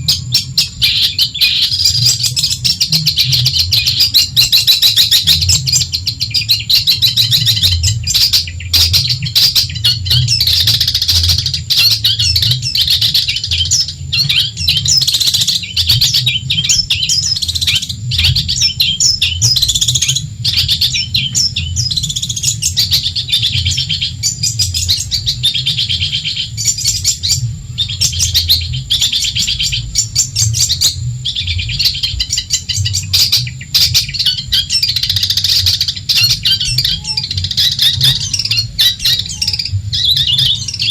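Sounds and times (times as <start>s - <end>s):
bird chattering and trilling: 0.0s - 40.9s
steady low hum: 0.0s - 40.9s.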